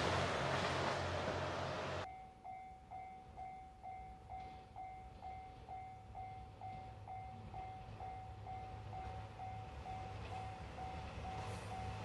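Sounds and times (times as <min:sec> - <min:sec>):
level crossing warning bell: 0:02.0 - 0:12.0.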